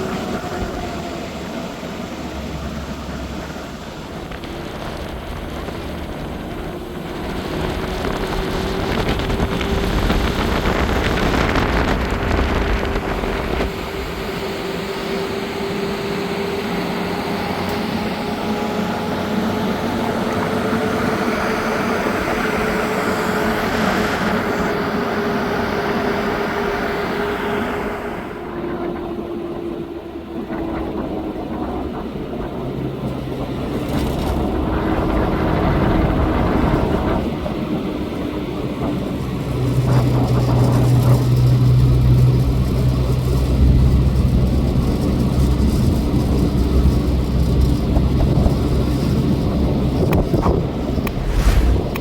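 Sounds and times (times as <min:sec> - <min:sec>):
road and wind noise: 0:00.0 - 0:52.0
vehicle engine hum: 0:00.0 - 0:52.0.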